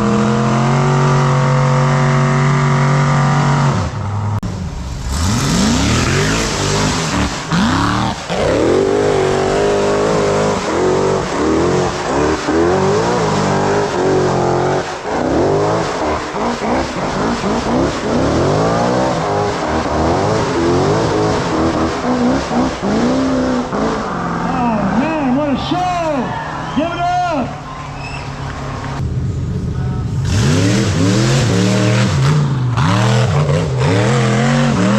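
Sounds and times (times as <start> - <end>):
off-road vehicle engine revving: 0.0 - 27.0, 28.3 - 34.9.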